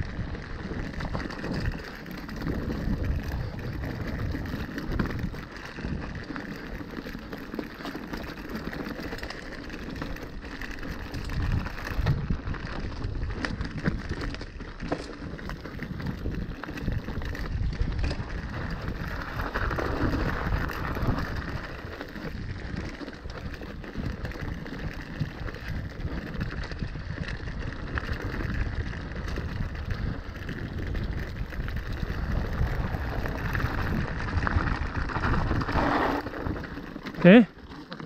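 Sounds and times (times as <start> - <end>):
bike rattling: 0.0 - 38.0
bike tyres crunching over stones: 0.0 - 38.0.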